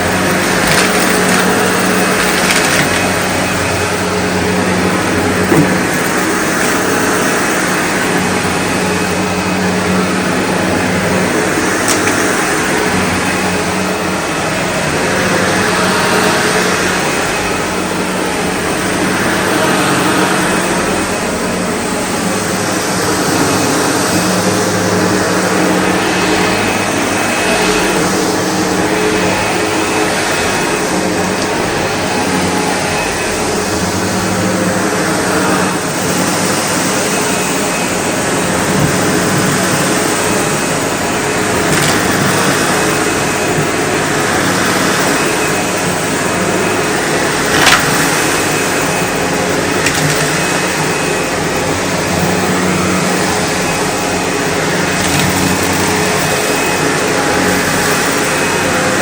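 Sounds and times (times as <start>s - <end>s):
vacuum cleaner motor hum: 0.0s - 59.0s.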